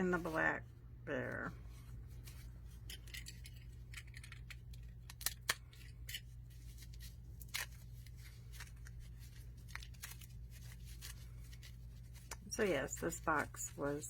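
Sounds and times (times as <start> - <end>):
low steady hum: 0.0 - 14.0
clicks and rustles of handled items: 2.1 - 14.0.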